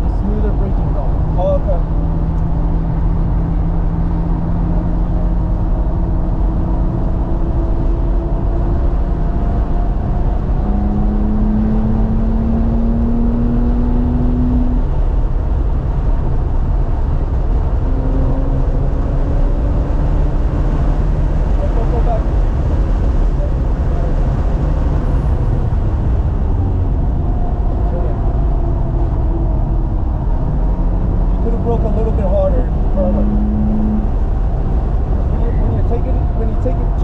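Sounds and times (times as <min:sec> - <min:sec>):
car engine running hard: 0:00.0 - 0:37.0
road and wind noise: 0:00.0 - 0:37.0.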